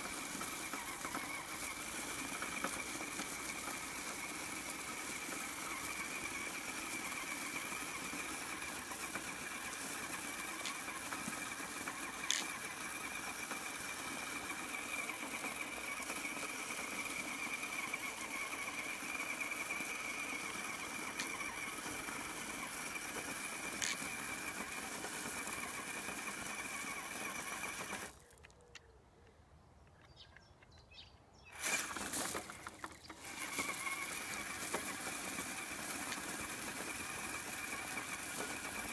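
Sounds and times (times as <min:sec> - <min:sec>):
electric motor whining: 0:00.0 - 0:28.3, 0:31.5 - 0:38.9.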